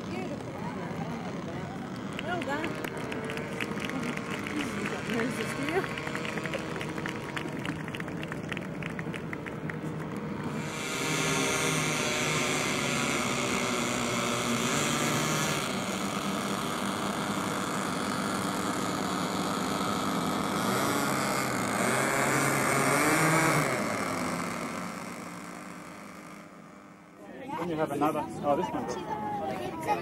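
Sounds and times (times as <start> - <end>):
model aircraft engines running: 0.0 - 30.0.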